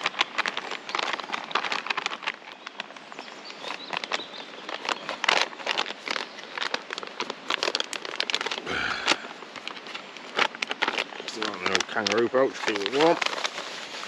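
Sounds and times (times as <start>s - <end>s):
food pouch crinkling: 0.0s - 14.0s.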